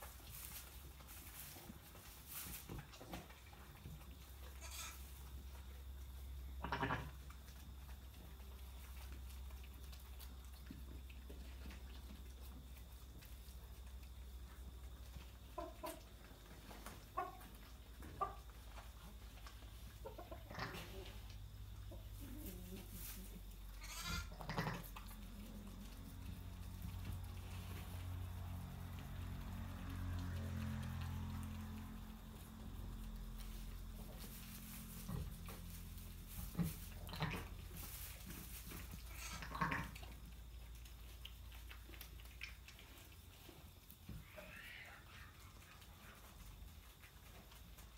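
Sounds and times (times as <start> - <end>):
steady low hum: 3.7 - 47.9.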